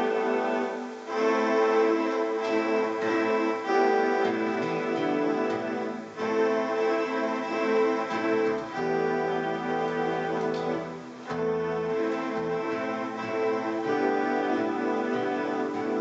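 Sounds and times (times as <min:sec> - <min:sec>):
ambient looped music: 0:00.0 - 0:16.0.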